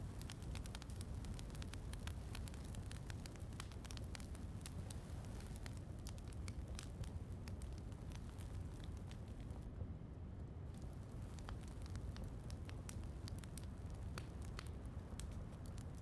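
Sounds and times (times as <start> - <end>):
wood fire crackling and popping: 0.0 - 9.7, 10.7 - 16.0.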